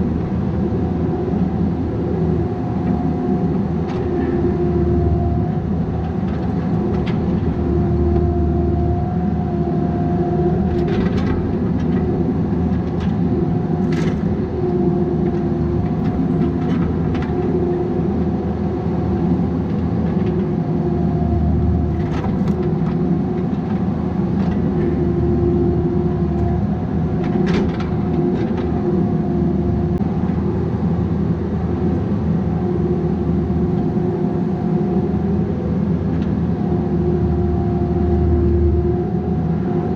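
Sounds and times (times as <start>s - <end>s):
excavator engine and hydraulic whine: 0.0s - 39.9s.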